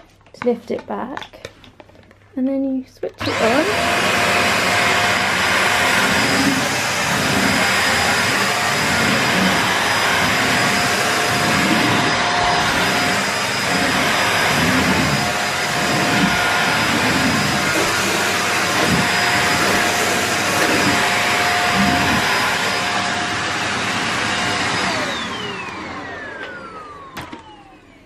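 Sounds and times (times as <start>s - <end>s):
vacuum cleaner running: 3.1s - 28.0s.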